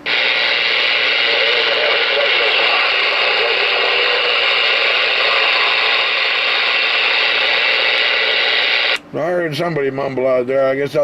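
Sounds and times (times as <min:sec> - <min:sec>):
radio static hiss: 0:00.0 - 0:09.0.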